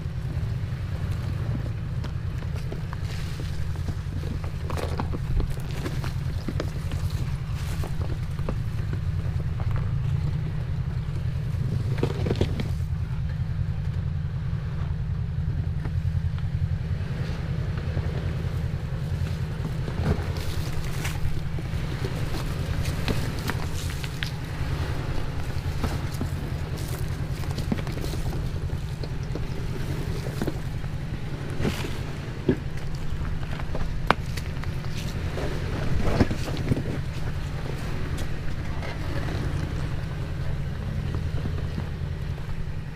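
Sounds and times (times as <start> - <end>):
tyres crunching on rock: 0.0 - 13.0, 17.8 - 42.9
vehicle engine low rumble: 0.0 - 42.9.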